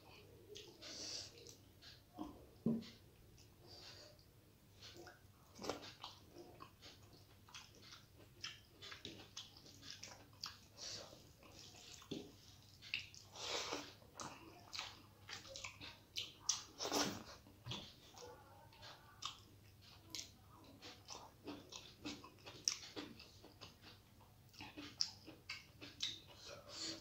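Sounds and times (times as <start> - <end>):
person chewing wetly: 0.5 - 2.4, 4.8 - 27.0.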